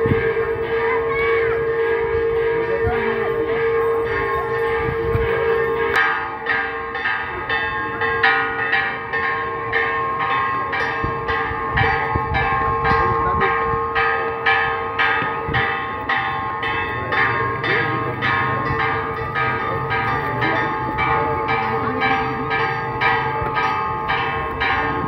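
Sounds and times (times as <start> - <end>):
church bells ringing peal: 0.0 - 25.0.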